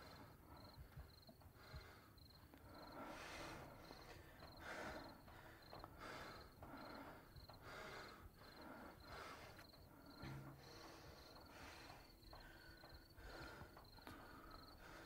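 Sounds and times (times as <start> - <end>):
crickets chirping: 0.0 - 15.0
man breathing heavily: 0.0 - 15.0.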